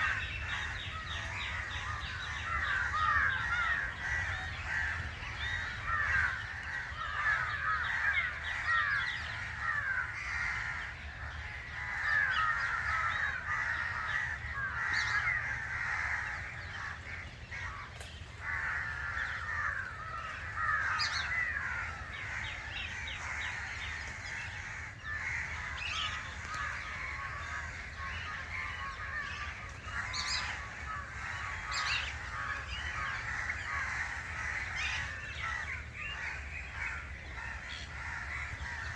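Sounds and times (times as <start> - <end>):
chorus of birds calling: 0.0 - 38.9.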